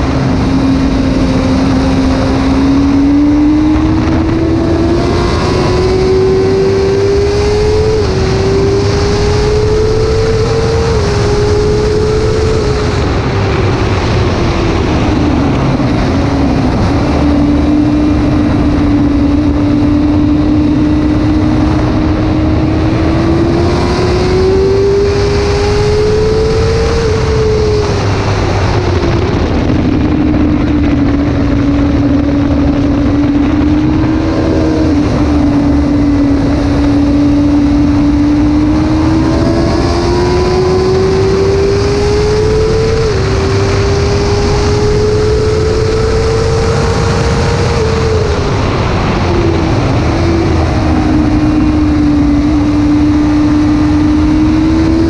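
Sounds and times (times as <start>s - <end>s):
motorcycle engine revving high: 0.0s - 55.0s
wind noise: 0.0s - 55.0s.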